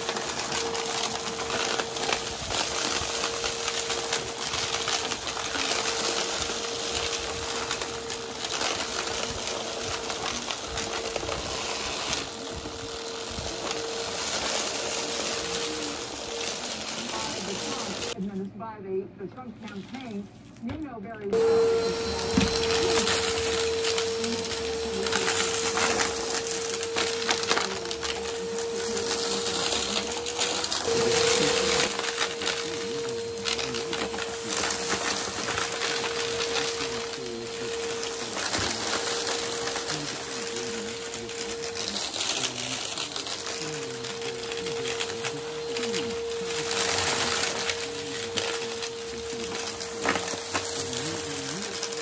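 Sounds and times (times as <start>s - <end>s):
debris rattling through vacuum: 0.0s - 18.2s, 21.3s - 52.0s
vacuum cleaner motor whine: 0.0s - 18.2s, 21.2s - 52.0s.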